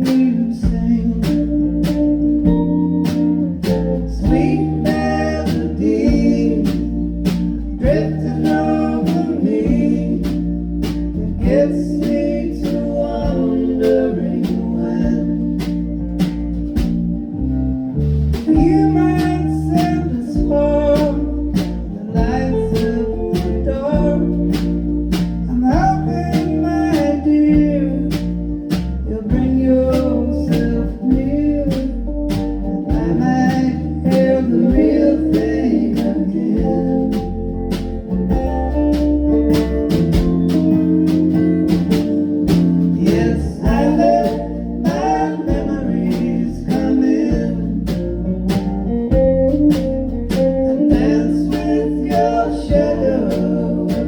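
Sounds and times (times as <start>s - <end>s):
person singing: 0.0s - 16.4s, 18.4s - 48.6s, 49.2s - 54.0s
live band playing: 0.0s - 54.0s.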